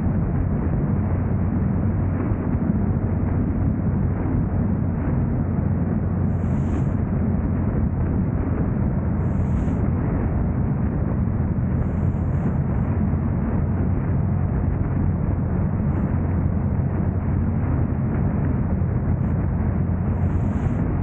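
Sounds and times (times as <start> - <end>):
road and wind noise from car: 0.0 - 21.0.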